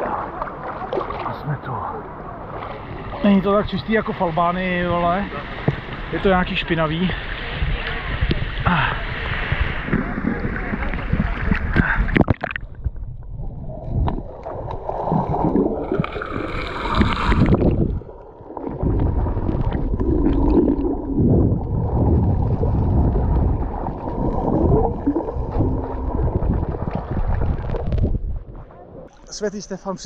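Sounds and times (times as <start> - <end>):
muffled underwater water sloshing: 0.0 - 29.2.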